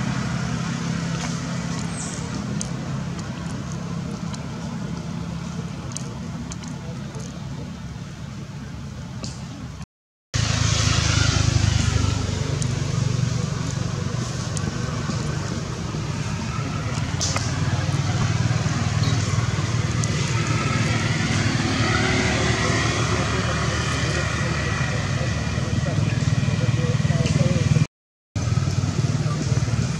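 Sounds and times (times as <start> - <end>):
low engine rumble: 0.0 - 9.8, 10.4 - 29.9.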